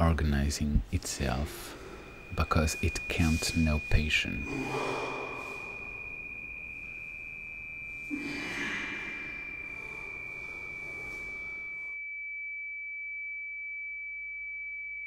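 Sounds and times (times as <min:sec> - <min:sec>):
high-pitched sine tone: 0:00.0 - 0:15.0.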